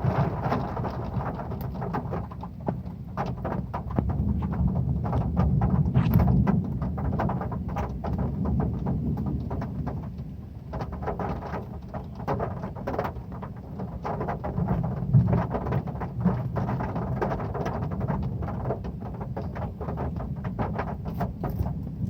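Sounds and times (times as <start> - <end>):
heavy rain on a metal roof: 0.0 - 22.0.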